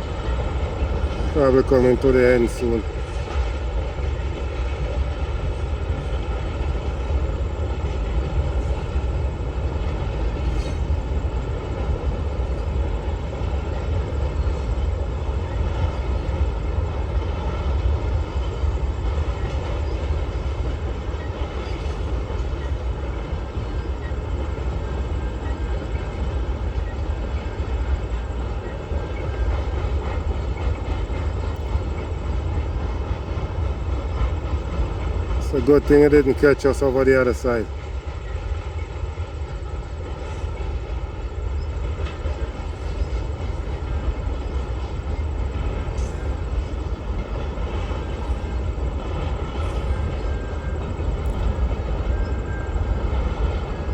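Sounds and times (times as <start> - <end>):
freight train rumbling on rails: 0.0 - 53.9.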